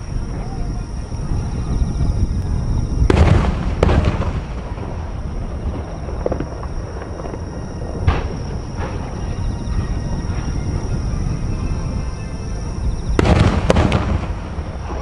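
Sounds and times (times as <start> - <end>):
firework explosions: 0.0 - 15.0
steady low rumble: 0.0 - 15.0.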